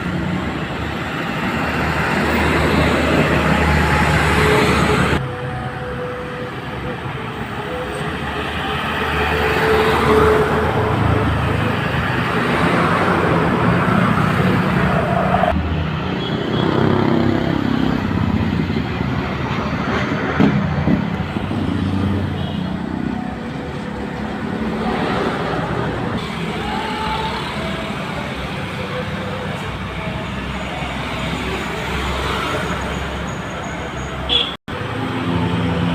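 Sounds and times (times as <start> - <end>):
road traffic passing: 0.0 - 35.9.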